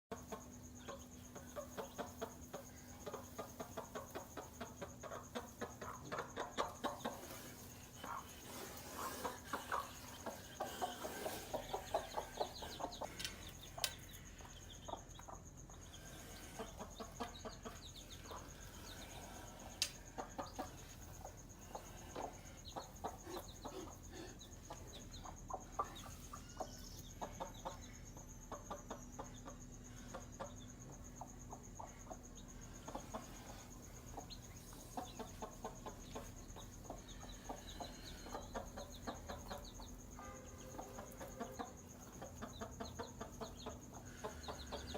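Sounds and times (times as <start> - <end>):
chicks peeping: 0.1 - 44.9
faint high-pitched whine: 0.1 - 44.9
hen clucking: 0.1 - 44.9.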